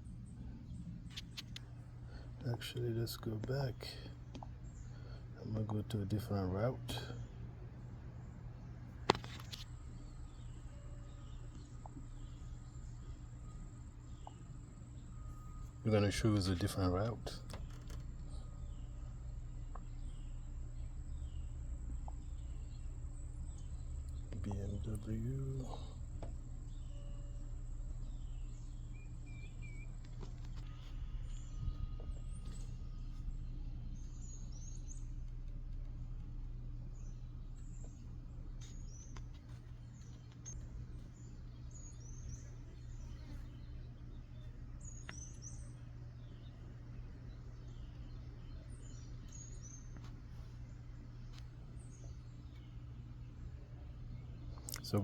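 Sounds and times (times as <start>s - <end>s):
faint chirping calls: 0.0s - 55.0s
steady low hum: 0.0s - 55.0s.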